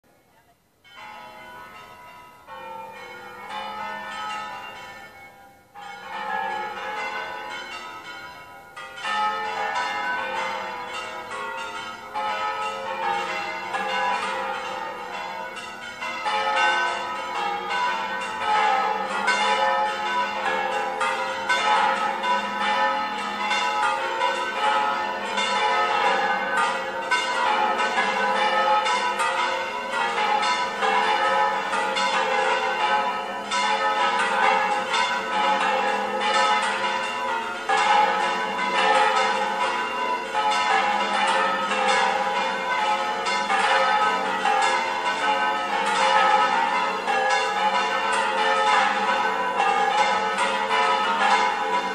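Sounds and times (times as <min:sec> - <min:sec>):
church bells pealing: 0:00.8 - 0:51.9.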